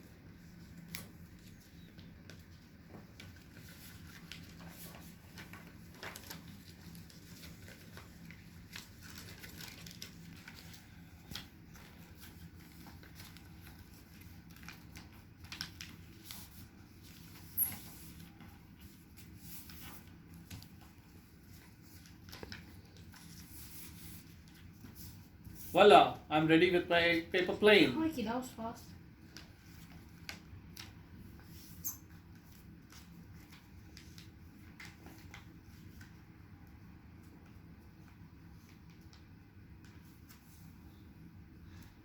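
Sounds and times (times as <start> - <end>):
low room hum: 0.0 - 42.0
paper rustling and creasing: 0.2 - 26.0, 29.2 - 42.0.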